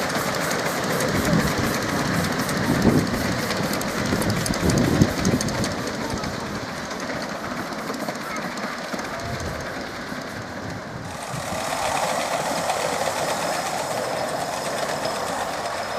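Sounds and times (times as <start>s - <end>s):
train wheels clicking over rail joints: 0.0s - 15.9s.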